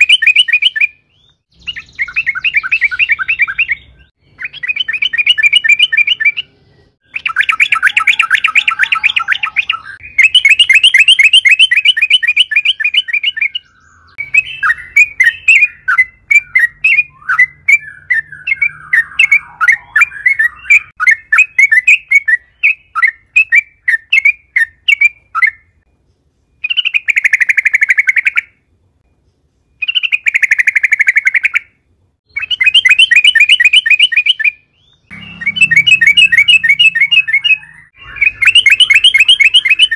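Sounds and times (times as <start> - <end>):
bird singing rapid chattering phrases: 0.0 - 39.9.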